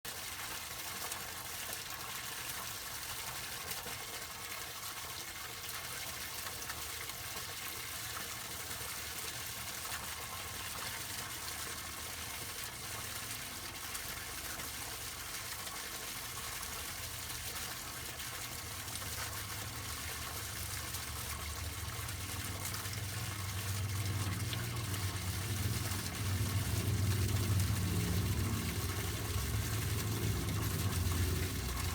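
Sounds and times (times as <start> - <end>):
fountain water splashing: 0.1 - 31.9.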